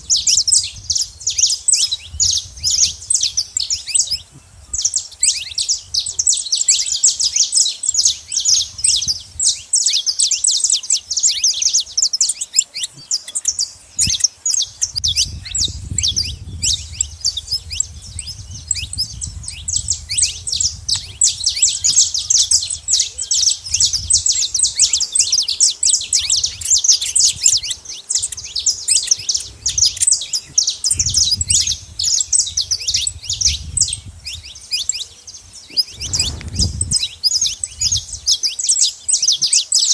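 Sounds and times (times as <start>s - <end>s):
finches chirping rapidly: 0.0s - 39.9s.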